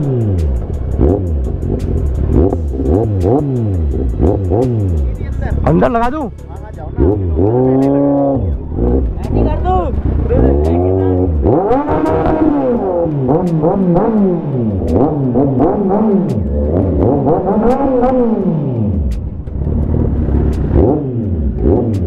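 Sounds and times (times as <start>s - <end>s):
motorcycle engines revving: 0.0s - 22.0s
sharp exhaust cracks: 0.0s - 22.0s.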